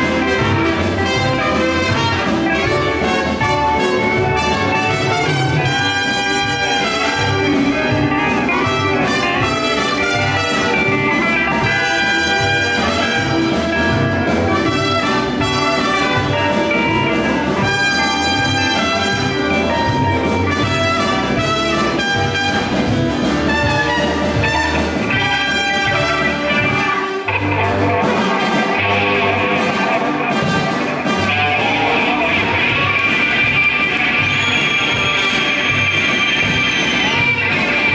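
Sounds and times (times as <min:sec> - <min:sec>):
live band playing: 0:00.0 - 0:37.9
trumpet melody: 0:00.0 - 0:37.9.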